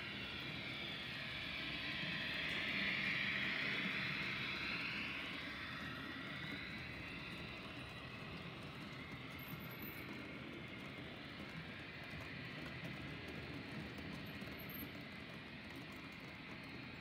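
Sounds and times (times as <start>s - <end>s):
model locomotive motor: 0.0s - 17.0s
model train wheels whirring: 0.0s - 17.0s.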